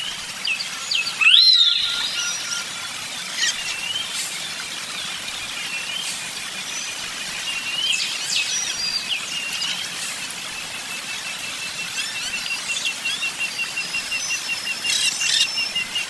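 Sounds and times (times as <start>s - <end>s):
steady outdoor hiss: 0.0s - 16.0s
birds chirping: 0.4s - 16.0s.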